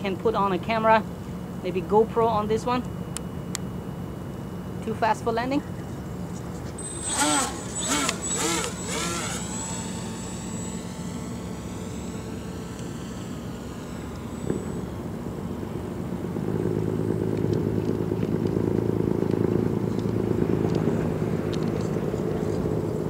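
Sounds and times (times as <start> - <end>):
model plane motor and propeller: 4.5 - 23.0.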